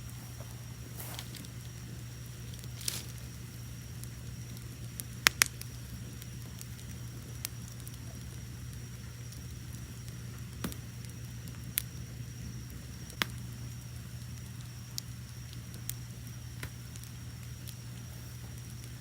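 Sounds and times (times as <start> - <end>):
crickets chirping: 0.0 - 19.0
low rumble of flames: 0.0 - 19.0
wood fire crackling and popping: 0.0 - 19.0.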